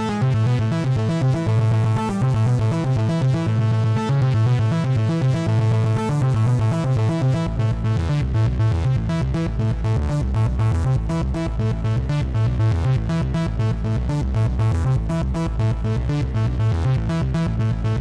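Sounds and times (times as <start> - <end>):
deep bass line: 0.0 - 18.0.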